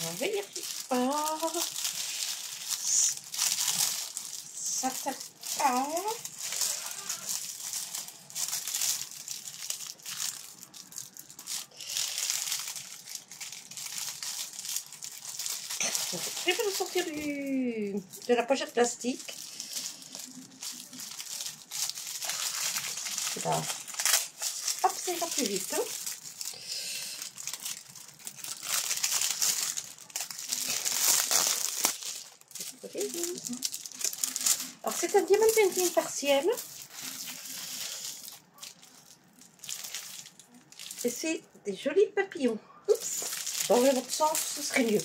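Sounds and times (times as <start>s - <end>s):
plastic sleeve crinkling: 0.0s - 41.4s, 42.9s - 45.0s.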